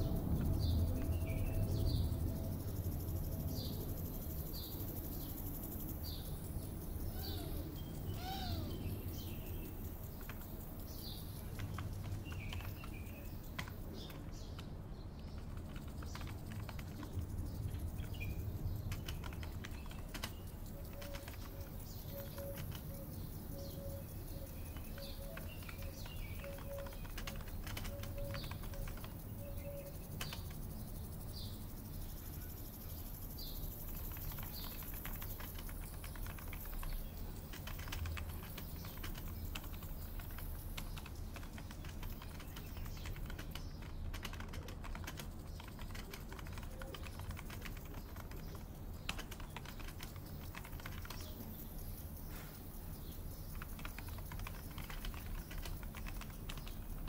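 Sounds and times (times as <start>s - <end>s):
bird chirping: 0.0s - 57.0s
low background hum: 0.0s - 57.0s
computer keyboard typing: 3.5s - 31.5s, 32.9s - 52.2s, 53.0s - 57.0s.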